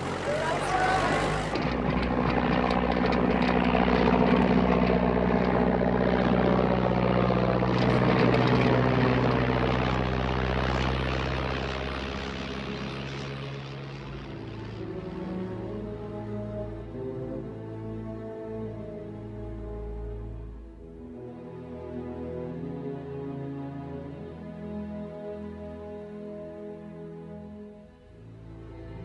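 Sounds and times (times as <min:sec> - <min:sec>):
propeller plane engine droning: 0:00.0 - 0:29.0.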